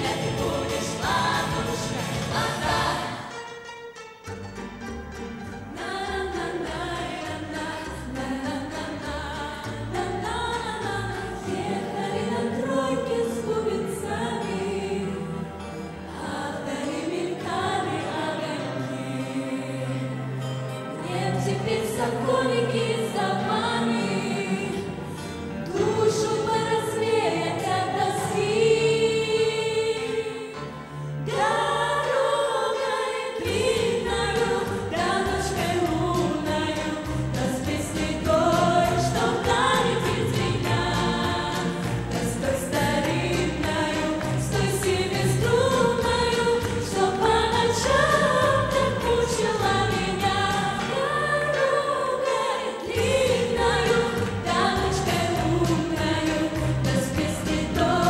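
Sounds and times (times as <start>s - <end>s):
girls singing pop in harmony: 0.0s - 3.3s, 5.7s - 20.3s, 20.9s - 58.0s.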